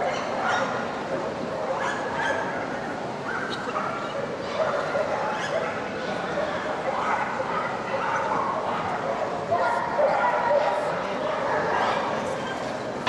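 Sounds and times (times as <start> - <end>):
background hubbub: 0.0 - 13.0.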